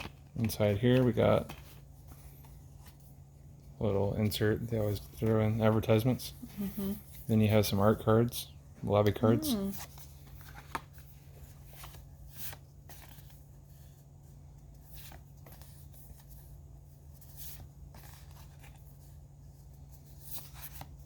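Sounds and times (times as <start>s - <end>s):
cards rustling and tapping: 0.0s - 6.0s, 8.9s - 21.0s.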